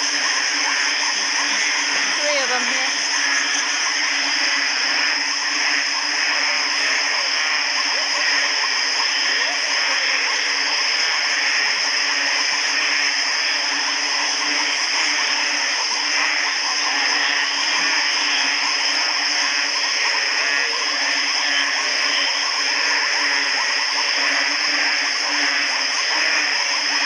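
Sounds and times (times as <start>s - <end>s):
frogs calling: 0.0s - 27.0s
steady high-pitched drone: 0.0s - 27.0s.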